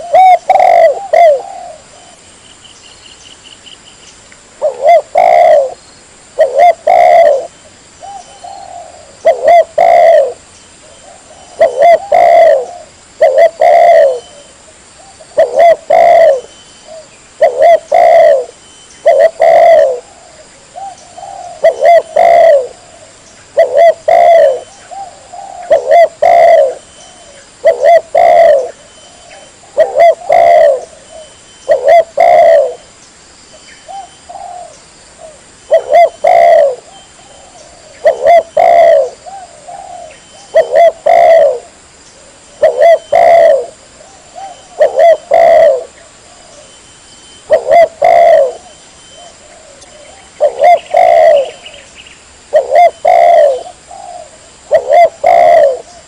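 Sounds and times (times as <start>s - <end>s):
dove cooing: 0.0s - 2.2s, 4.6s - 5.8s, 6.4s - 32.9s, 33.8s - 46.8s, 47.4s - 56.0s.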